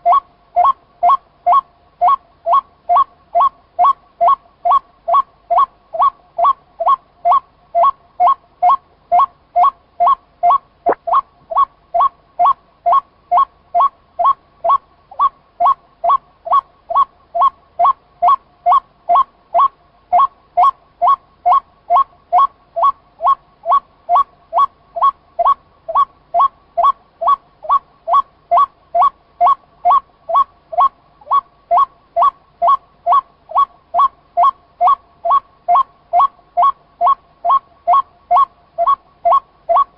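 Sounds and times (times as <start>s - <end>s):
waterhen two-pitched call: 0.0s - 39.9s.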